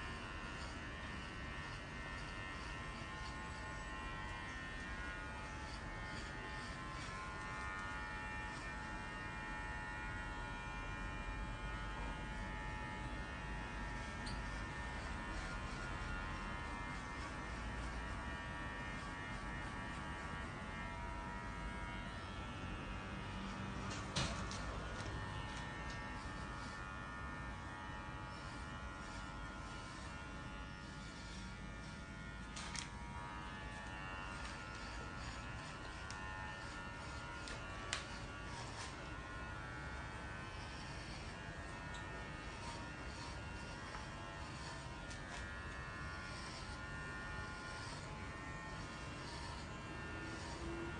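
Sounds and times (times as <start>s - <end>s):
electric hair clippers buzzing: 0.0s - 50.9s.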